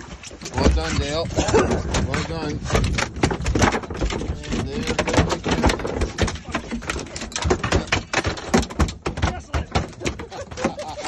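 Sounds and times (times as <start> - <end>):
fish thrashing on boat deck: 0.0 - 11.0.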